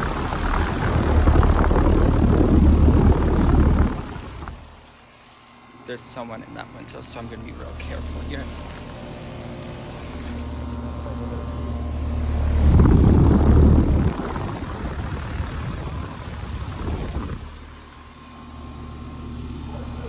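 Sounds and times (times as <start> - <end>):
fan rushing: 0.0 - 20.0
heat pump unit humming: 0.0 - 20.0.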